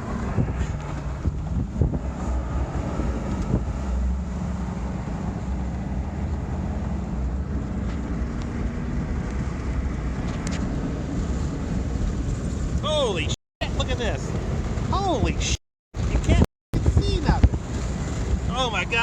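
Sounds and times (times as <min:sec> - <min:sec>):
vehicle engine and road drone: 0:00.0 - 0:19.0
wind gusts buffeting: 0:00.0 - 0:19.0.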